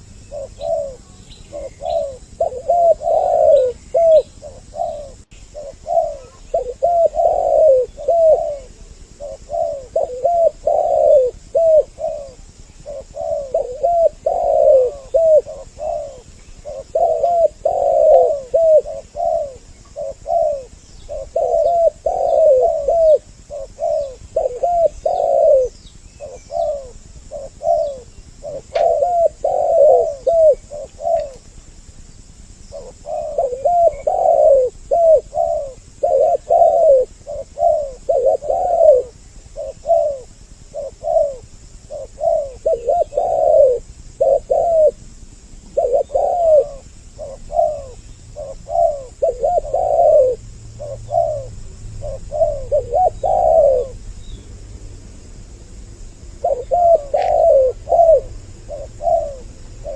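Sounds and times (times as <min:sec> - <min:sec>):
doves cooing: 0:00.0 - 0:54.4, 0:56.2 - 0:59.9
small birds chirping: 0:00.0 - 0:59.9.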